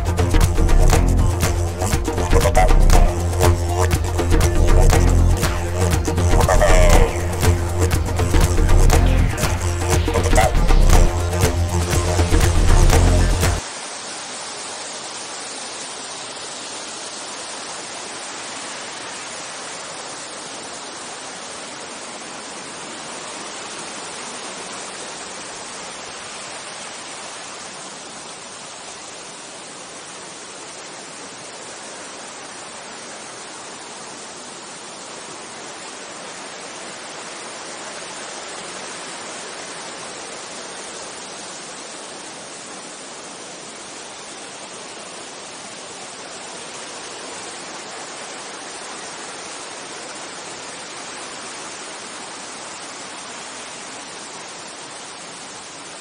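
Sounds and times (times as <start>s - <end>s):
stream rushing over boulders: 0.0s - 56.0s.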